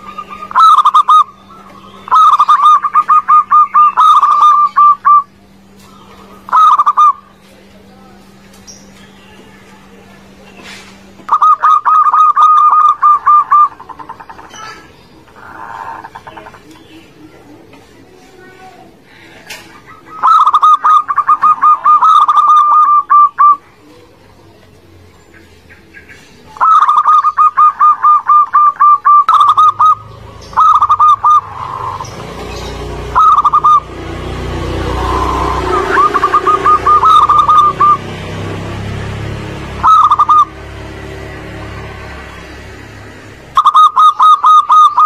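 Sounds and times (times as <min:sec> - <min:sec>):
doves cooing: 0:00.0 - 0:45.0.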